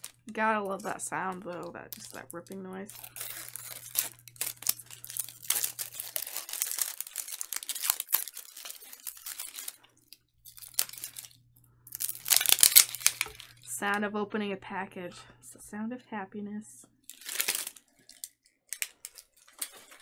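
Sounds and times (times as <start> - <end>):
plastic wrapper ripping: 0.0 - 13.7, 17.0 - 20.0.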